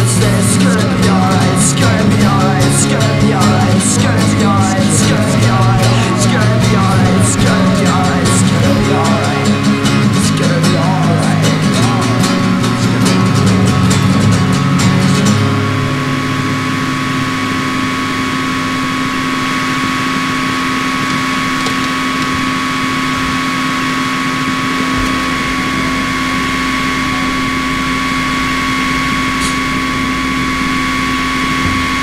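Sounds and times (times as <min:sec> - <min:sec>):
low rumble: 0:00.0 - 0:32.0
motor droning: 0:00.0 - 0:32.0.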